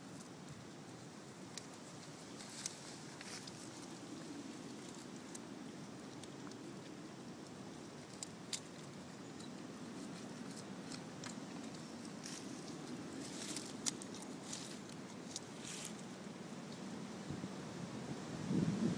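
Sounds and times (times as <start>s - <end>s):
faint steady background noise: 0.0s - 18.9s.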